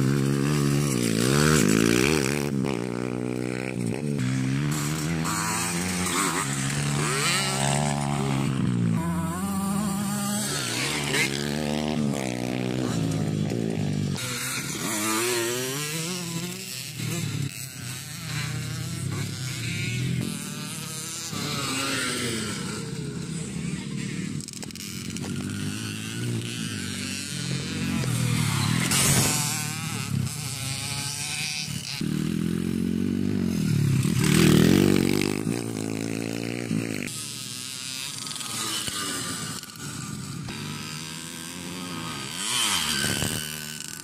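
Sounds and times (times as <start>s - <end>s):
dirt bikes revving: 0.0s - 44.0s.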